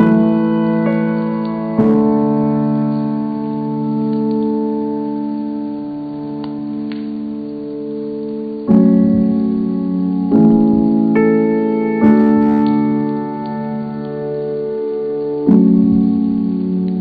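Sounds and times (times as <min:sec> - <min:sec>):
keyboard playing slow chords: 0:00.0 - 0:17.0.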